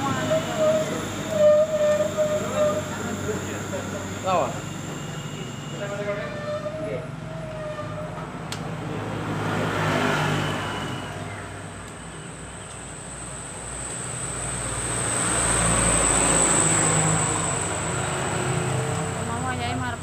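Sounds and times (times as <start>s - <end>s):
thin high whine: 0.0s - 8.4s, 9.8s - 20.0s
vehicle engine: 0.0s - 20.0s.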